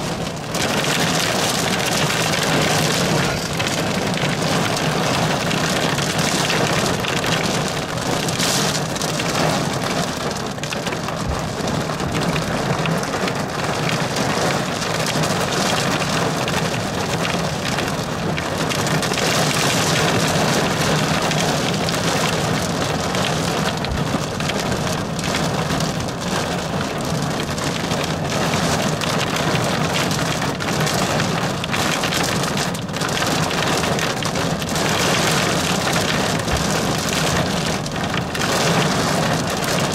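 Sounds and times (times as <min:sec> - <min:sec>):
rain on car windshield and roof: 0:00.0 - 0:39.9.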